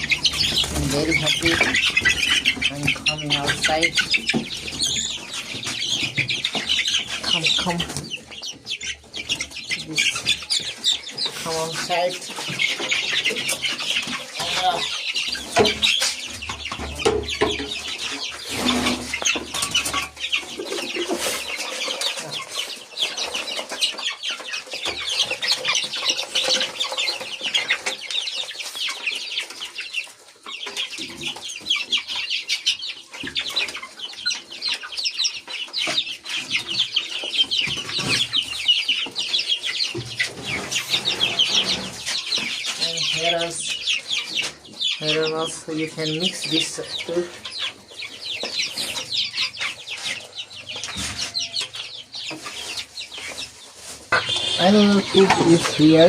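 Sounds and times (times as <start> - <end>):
chickens clucking and cheeping: 0.0 - 56.0.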